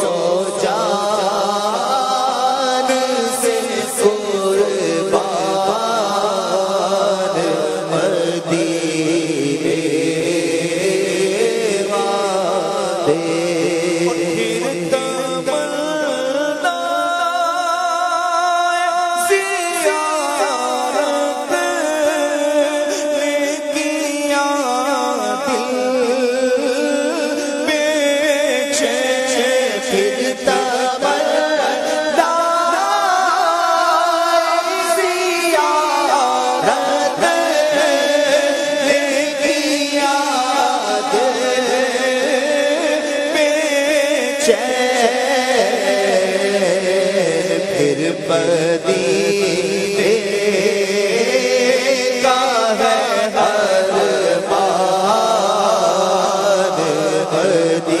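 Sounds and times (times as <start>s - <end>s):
person chanting devotional song: 0.0s - 58.0s.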